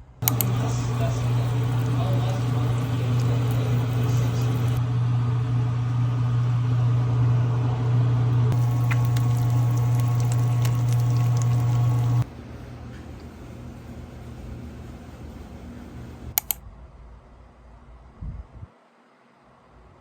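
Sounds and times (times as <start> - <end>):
appliance humming: 0.0 - 16.6.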